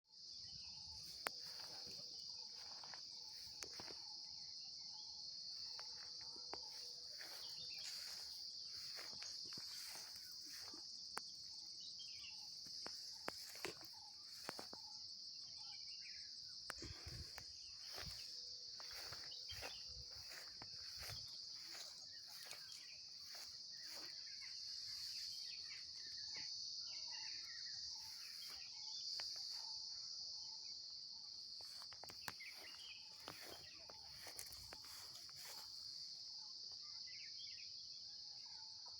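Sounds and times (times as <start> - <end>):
insects chirring: 0.1 - 38.2.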